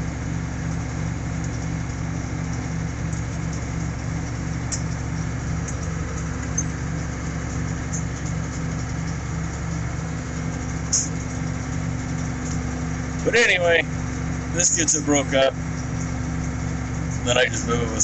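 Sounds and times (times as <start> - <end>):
tractor engine throbbing: 0.0 - 18.0.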